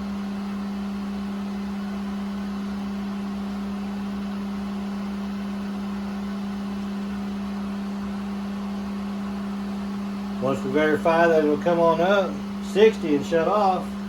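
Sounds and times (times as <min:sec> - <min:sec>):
well pump motor humming: 0:00.0 - 0:14.0.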